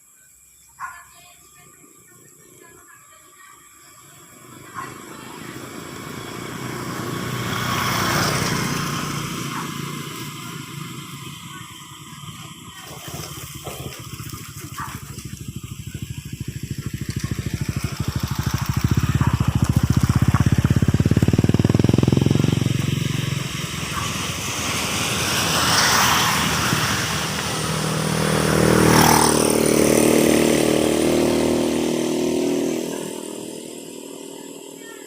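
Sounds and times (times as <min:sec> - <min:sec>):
motor vehicles passing: 0:00.8 - 0:35.0.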